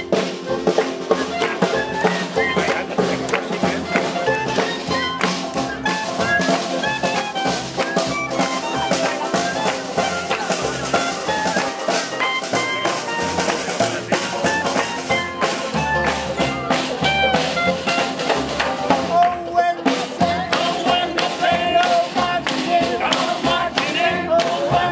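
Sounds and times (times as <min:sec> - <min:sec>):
clarinet: 0:00.0 - 0:21.9
jazz band playing swing: 0:00.0 - 0:24.9
snare drum hits: 0:00.0 - 0:24.9.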